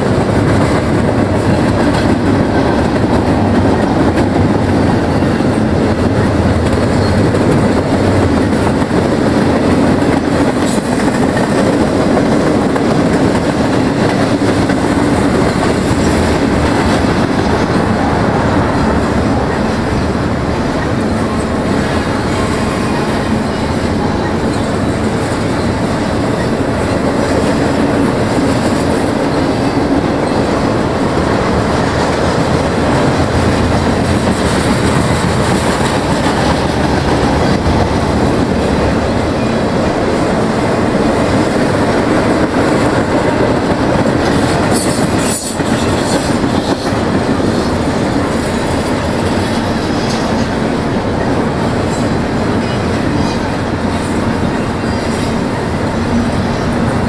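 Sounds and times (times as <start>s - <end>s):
freight cars rolling on rails: 0.0s - 57.0s.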